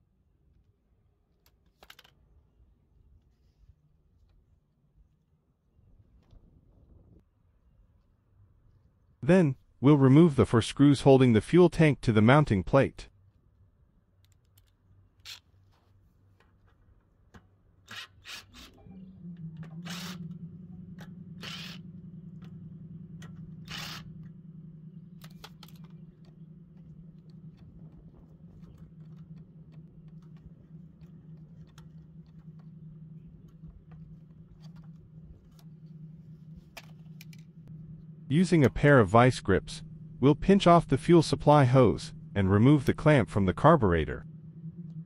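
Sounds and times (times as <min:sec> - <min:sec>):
steady low hum: 0:02.2 - 0:45.0.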